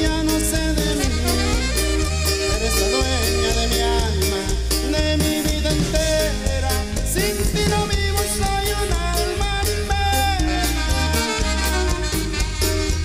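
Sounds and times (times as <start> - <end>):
drums: 0.0 - 13.0
heavy repeating bass line: 0.0 - 13.0
latin dance band playing: 0.0 - 13.0.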